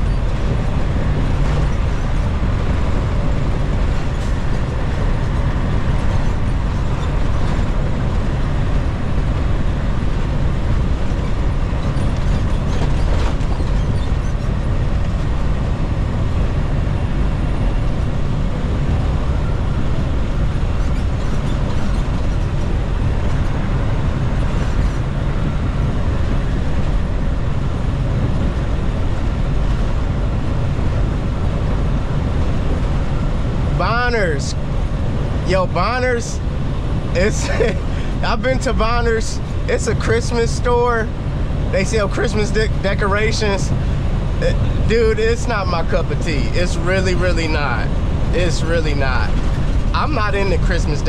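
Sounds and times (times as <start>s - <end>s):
truck engine and road noise: 0.0s - 51.0s.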